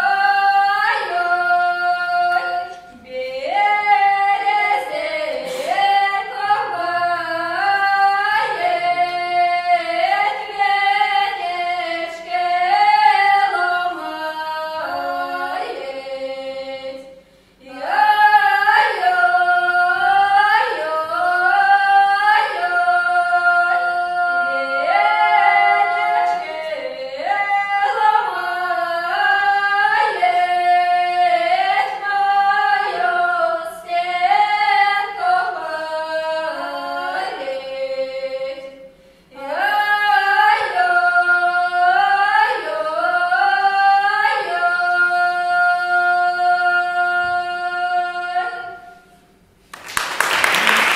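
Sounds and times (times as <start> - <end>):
two women singing in harmony: 0.0 - 49.6.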